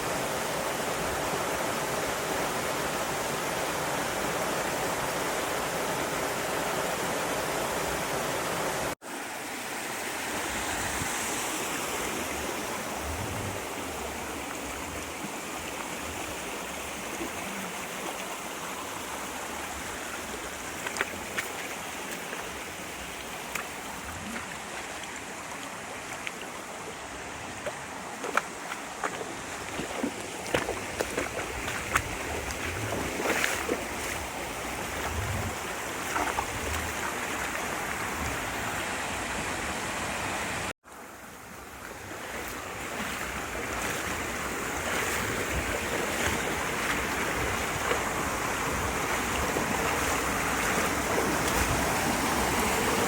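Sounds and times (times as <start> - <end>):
stream water running over rocks: 0.0 - 53.0.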